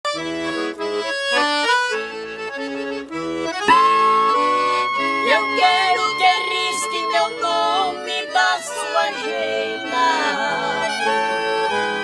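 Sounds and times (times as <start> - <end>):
accordion music: 0.0 - 12.0.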